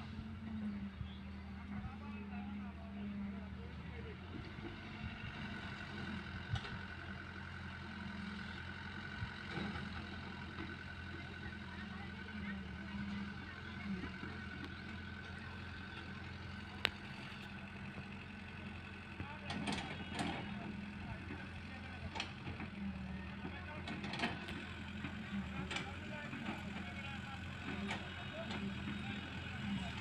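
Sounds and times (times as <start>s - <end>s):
diesel engines running: 0.0s - 30.0s.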